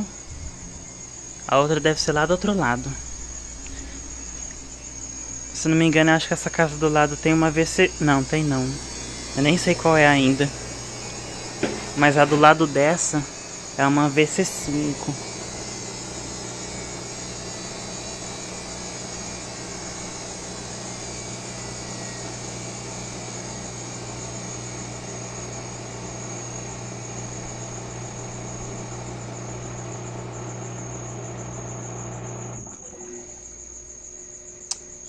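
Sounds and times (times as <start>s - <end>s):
washing machine spinning: 0.0s - 33.3s.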